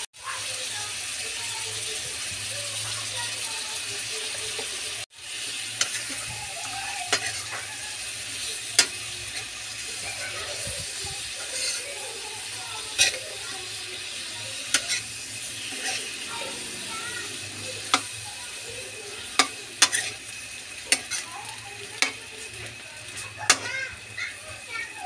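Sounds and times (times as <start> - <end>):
shrimp sizzling in a wok: 0.0 - 25.0.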